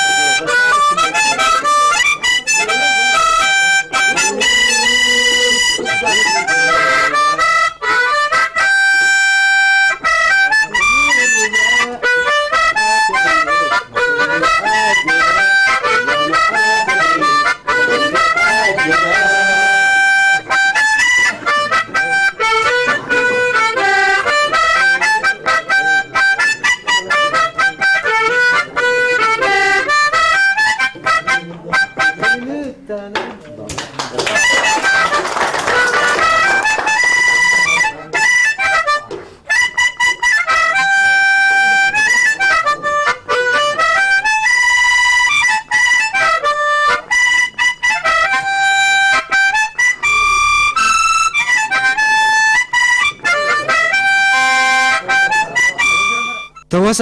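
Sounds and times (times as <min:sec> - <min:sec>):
harmonica playing lively tune: 0:00.0 - 0:33.0, 0:34.1 - 0:57.0.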